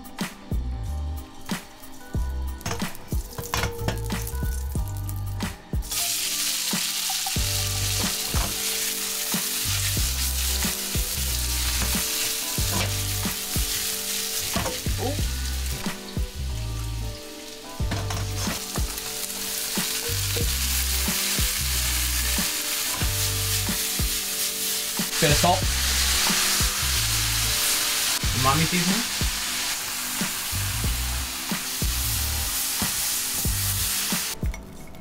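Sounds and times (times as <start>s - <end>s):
soft background beat: 0.0s - 34.9s
meat sizzling in a wok: 4.0s - 34.4s.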